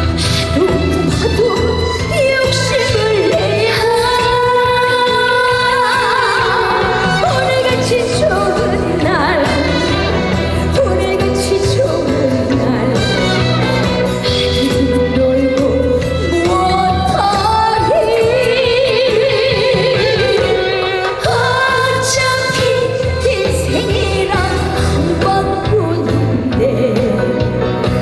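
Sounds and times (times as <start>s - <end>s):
woman singing with vibrato: 0.0s - 27.7s
band accompaniment with steady beat: 0.0s - 28.0s.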